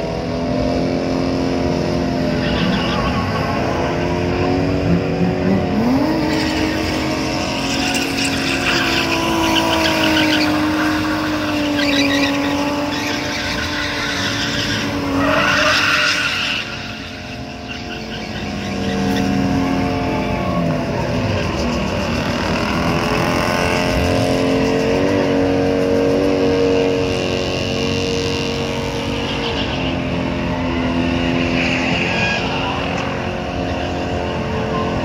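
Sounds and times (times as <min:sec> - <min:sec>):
car engine revving: 0:00.0 - 0:35.0
tires squealing: 0:00.0 - 0:35.0.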